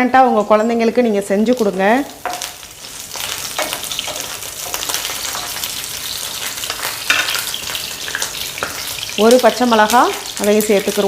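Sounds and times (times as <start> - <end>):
garlic sizzling in oil: 0.2 - 11.0.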